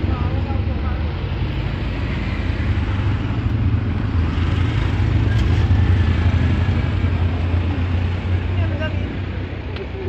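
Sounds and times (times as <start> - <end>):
auto-rickshaw engines running: 0.0 - 10.0.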